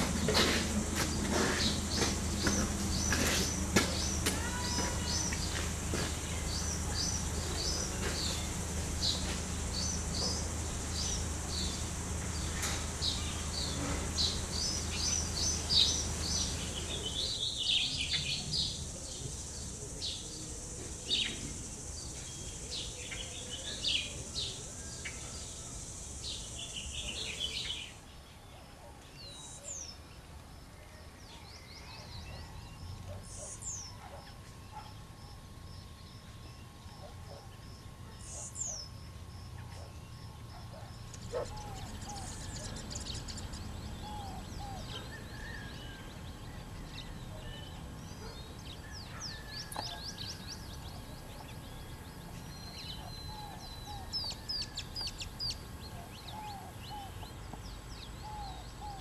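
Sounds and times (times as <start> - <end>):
bird chirps: 0.0 - 30.1, 31.3 - 59.0.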